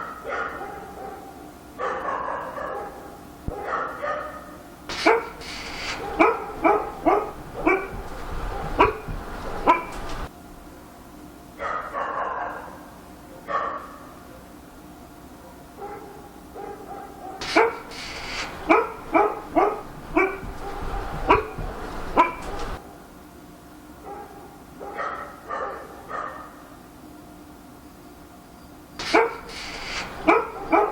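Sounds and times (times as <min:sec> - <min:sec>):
dog barking: 0:00.0 - 0:10.3, 0:11.6 - 0:14.2, 0:15.4 - 0:22.9, 0:24.0 - 0:26.7, 0:29.0 - 0:30.9.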